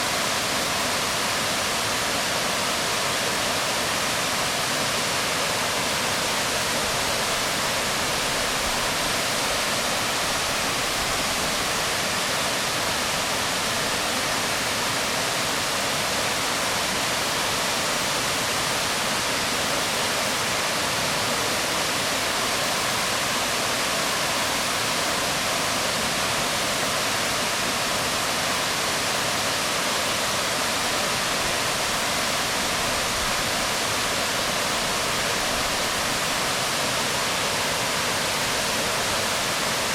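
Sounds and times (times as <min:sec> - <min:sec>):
waterfall rushing onto rocks: 0:00.0 - 0:39.9.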